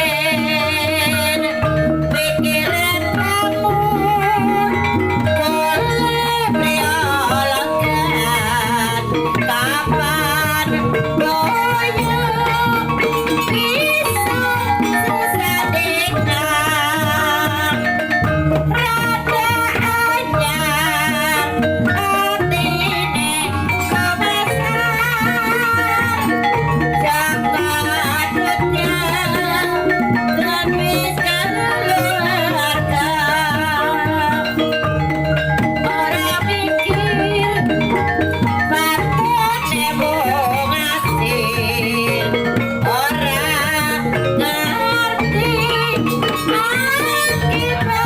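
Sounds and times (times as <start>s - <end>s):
drum pattern: 0.0s - 48.0s
person singing wavering melody: 0.0s - 48.0s
ringing metal percussion: 0.0s - 48.0s.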